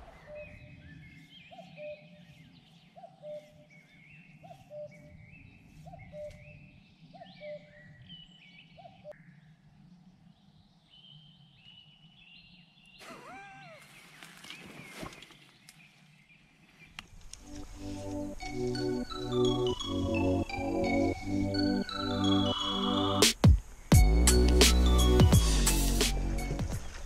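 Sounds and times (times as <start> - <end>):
high short birdsongs: 0.0 - 9.3, 10.2 - 27.0.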